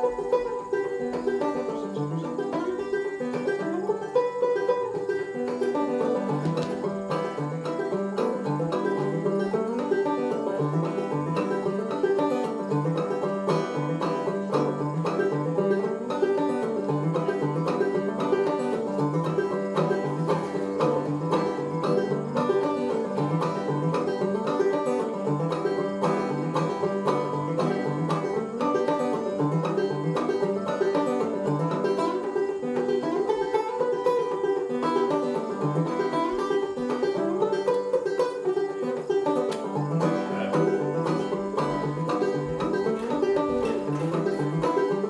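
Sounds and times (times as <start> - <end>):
solo banjo plucked tune: 0.0 - 45.0.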